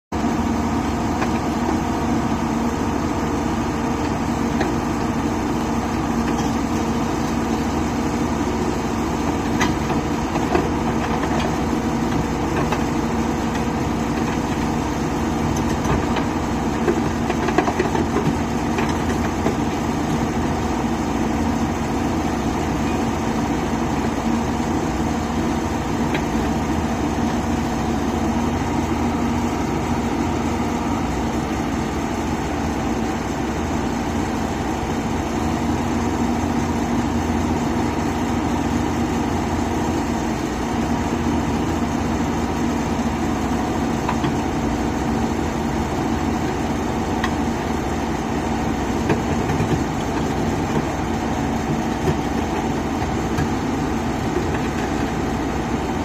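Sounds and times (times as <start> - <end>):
diesel engine running: 0.1 - 56.0.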